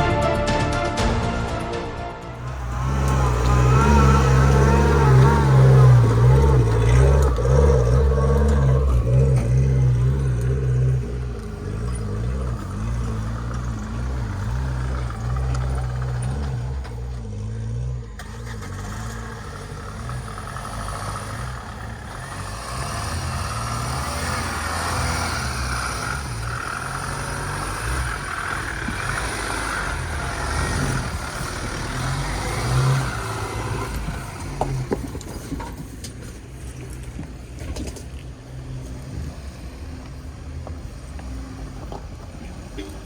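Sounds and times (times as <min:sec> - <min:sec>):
off-road vehicle engine running: 0:02.3 - 0:43.0.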